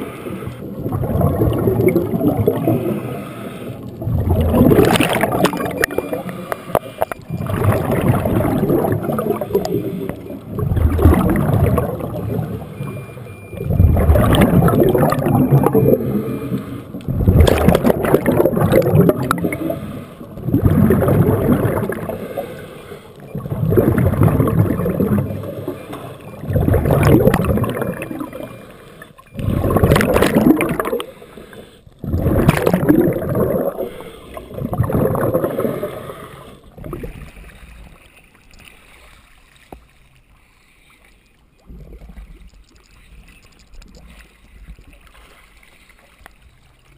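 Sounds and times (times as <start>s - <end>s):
underwater bubbling: 0.0s - 46.9s.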